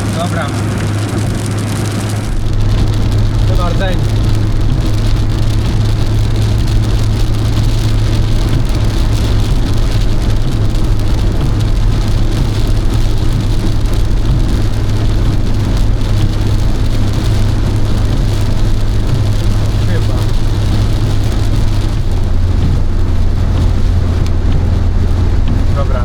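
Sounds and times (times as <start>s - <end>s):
car engine and tyres drone: 0.0s - 26.0s
heavy rain on car roof: 0.0s - 26.0s.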